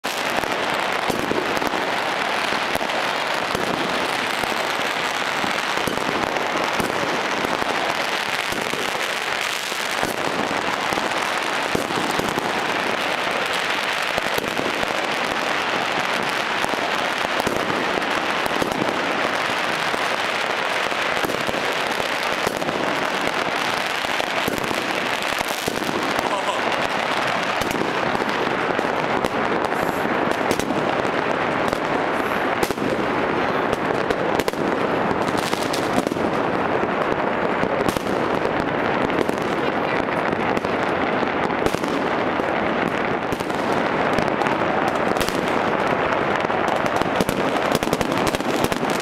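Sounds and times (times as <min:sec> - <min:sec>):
firecrackers crackling and popping: 0:00.0 - 0:49.0.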